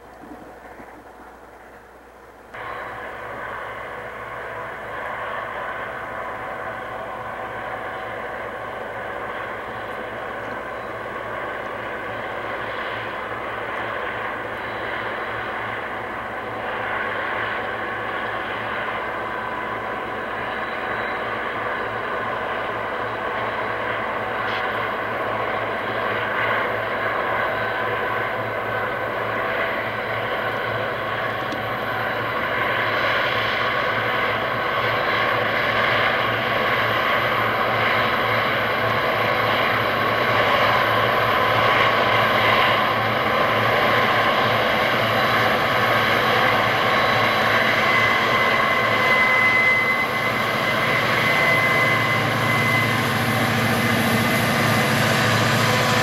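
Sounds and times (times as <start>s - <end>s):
diesel locomotive engine drone: 0.0s - 56.0s
high whine: 0.0s - 56.0s.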